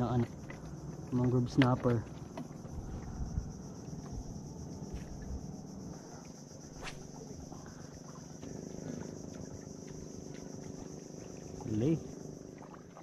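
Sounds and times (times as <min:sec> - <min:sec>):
high-pitched insect drone: 0:02.2 - 0:13.0.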